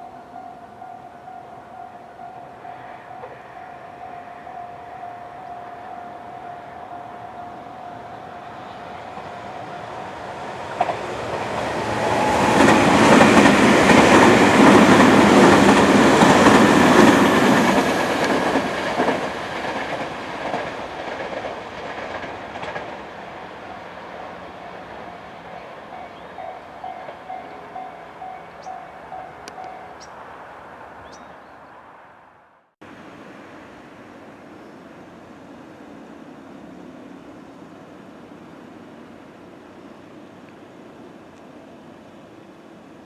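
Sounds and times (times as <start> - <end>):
electric train passing: 0.0 - 43.0.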